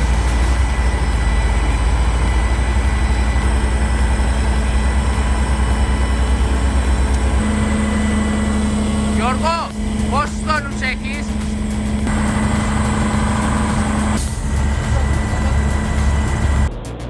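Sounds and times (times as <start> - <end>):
large engine droning: 0.0 - 16.9.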